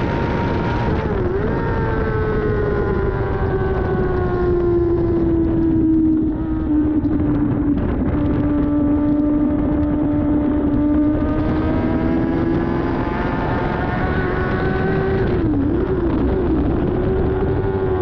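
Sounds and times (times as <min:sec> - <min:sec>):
motorcycle engine running: 0:00.0 - 0:18.0
rushing rumble: 0:00.0 - 0:18.0.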